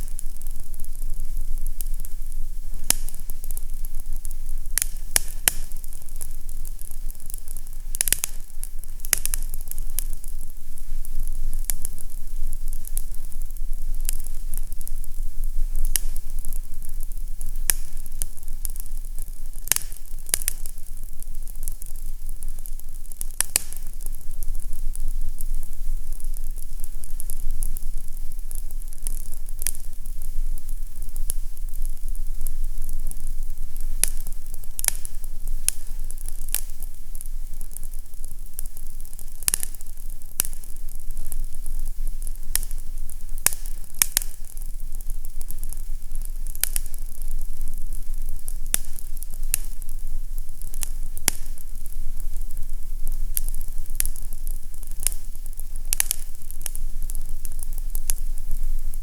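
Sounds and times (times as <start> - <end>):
steady hiss: 0.0 - 59.0
wood fire crackling: 0.0 - 59.0.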